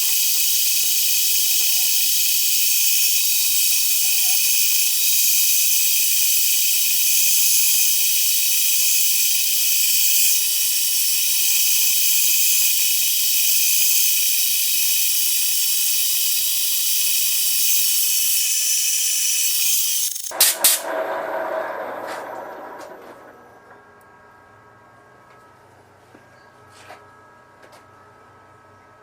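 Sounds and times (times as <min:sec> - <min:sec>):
machine tool cutting metal: 0:00.0 - 0:23.3.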